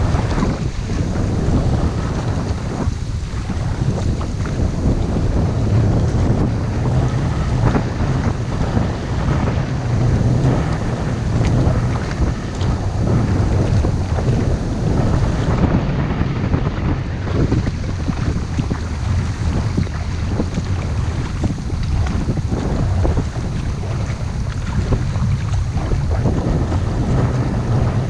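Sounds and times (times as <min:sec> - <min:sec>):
light water splashes: 0:00.0 - 0:16.2, 0:17.0 - 0:28.0
wind buffeting microphone: 0:00.0 - 0:28.0.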